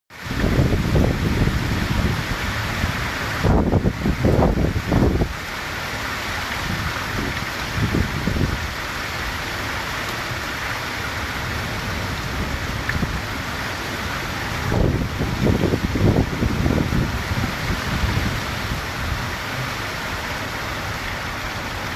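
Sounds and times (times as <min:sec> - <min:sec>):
heavy rain pouring: 0:00.1 - 0:21.9
wind gusts on microphone: 0:00.2 - 0:21.9.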